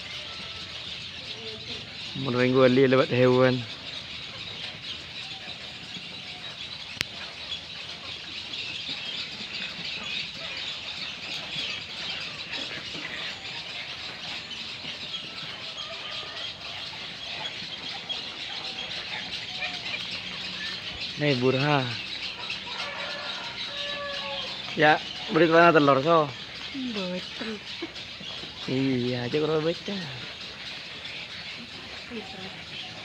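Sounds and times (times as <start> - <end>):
egrets squawking: 0.0 - 33.0.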